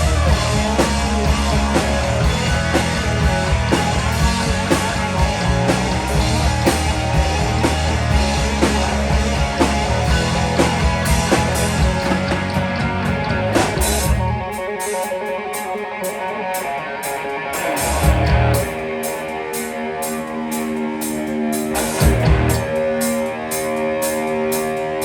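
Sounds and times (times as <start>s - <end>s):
pop-rock band instrumental: 0.0s - 25.0s.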